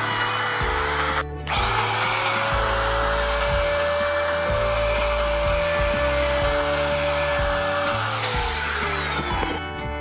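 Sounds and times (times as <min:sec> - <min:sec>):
router bit cutting wood: 0:00.0 - 0:09.8
trim router whining: 0:00.0 - 0:09.8
background music with bass line: 0:00.0 - 0:10.0.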